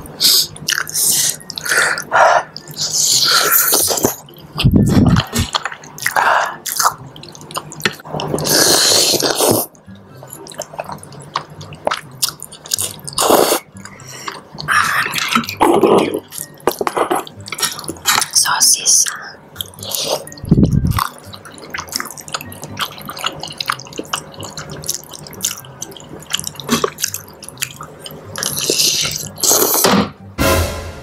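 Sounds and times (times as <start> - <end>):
slurping and chewing: 0.2 - 18.4, 19.0 - 29.9.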